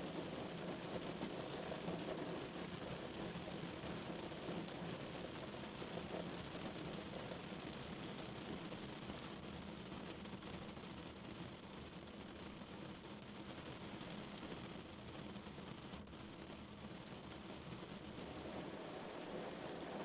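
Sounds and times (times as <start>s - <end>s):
rain falling on a car: 0.0s - 20.0s.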